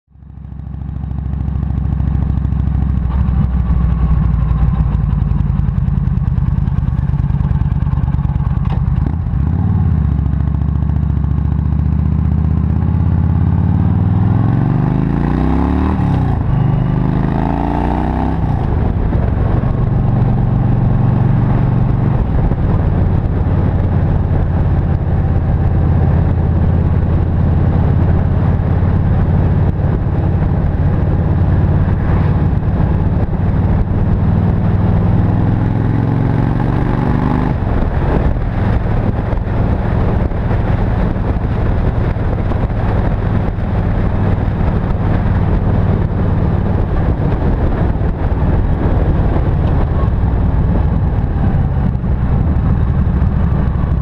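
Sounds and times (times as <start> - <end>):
motorcycle engine riding: 0.1 - 54.0.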